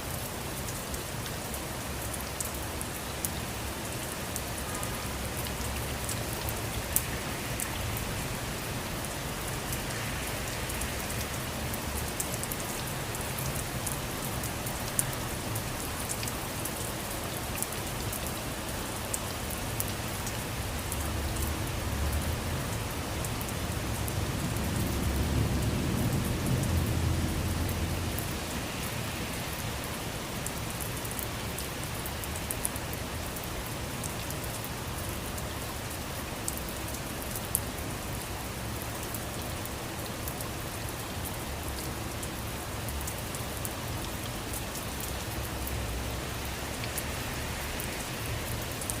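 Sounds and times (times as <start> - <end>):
rain falling: 0.0 - 49.0.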